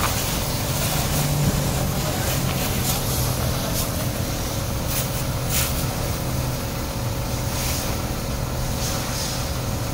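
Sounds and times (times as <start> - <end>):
water jet hissing on car: 0.0 - 9.9.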